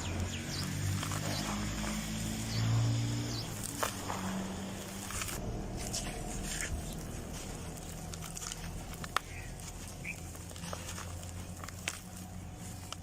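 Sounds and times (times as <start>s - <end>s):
dry dirt crumbling and crunching: 0.0s - 13.0s
steady low hum: 0.0s - 13.0s.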